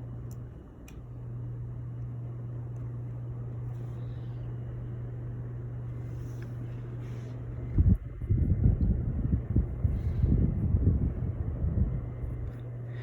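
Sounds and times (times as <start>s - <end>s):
ceiling fan motor hum: 0.0s - 13.0s.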